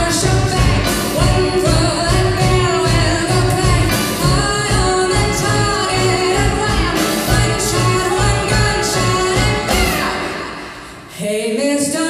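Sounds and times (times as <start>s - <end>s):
drum kit with cymbals: 0.0s - 11.2s
live band playing: 0.0s - 11.2s
woman singing into microphone: 0.0s - 12.0s.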